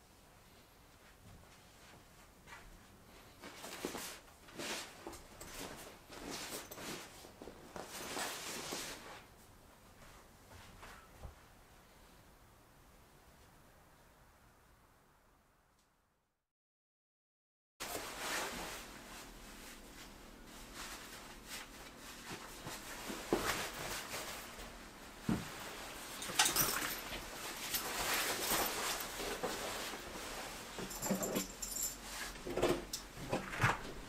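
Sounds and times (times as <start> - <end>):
clothing rustle: 0.4 - 12.1, 17.8 - 34.0.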